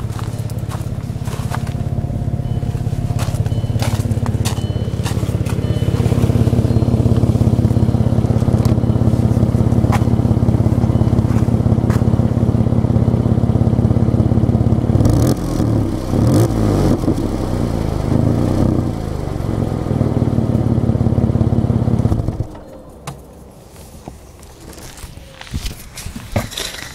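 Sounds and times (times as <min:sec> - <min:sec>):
car engine loping idle: 0:00.0 - 0:23.5.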